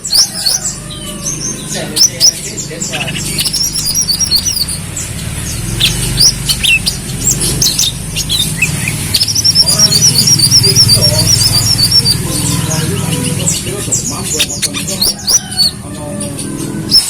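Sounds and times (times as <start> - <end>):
bird chirping and trilling: 0.0 - 17.0.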